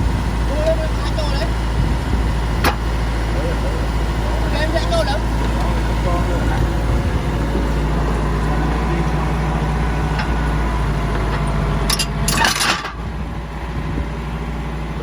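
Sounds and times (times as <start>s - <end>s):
metallic clanking: 0.0s - 13.5s
bulldozer diesel engine running: 0.0s - 15.0s.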